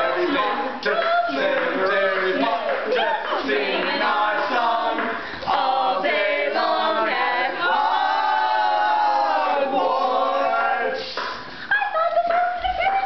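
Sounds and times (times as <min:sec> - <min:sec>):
group singing a cappella: 0:00.0 - 0:11.7.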